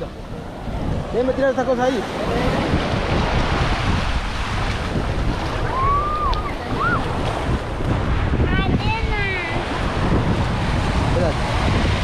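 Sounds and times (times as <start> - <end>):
small waves washing over shallows: 0.0 - 12.0
wind buffeting microphone: 0.0 - 12.0.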